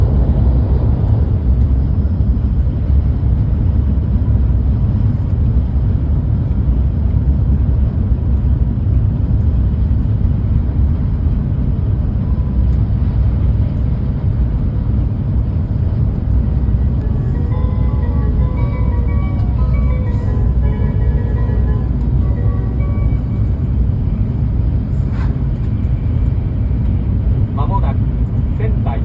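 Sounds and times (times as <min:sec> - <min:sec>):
train running low rumble: 0:00.0 - 0:29.0.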